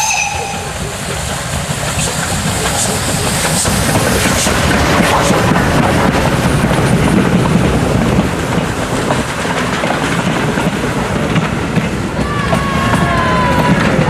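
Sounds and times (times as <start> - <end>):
steam train running: 0.0 - 14.0.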